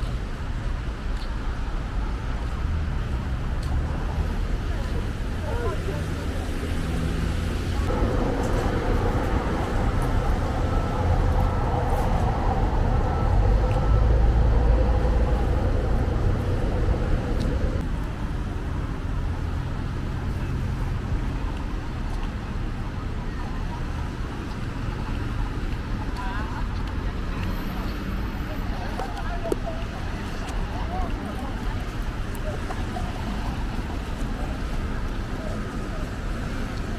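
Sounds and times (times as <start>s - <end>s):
heavy vehicle rumble: 0.0s - 36.9s
road traffic passing: 0.0s - 36.9s.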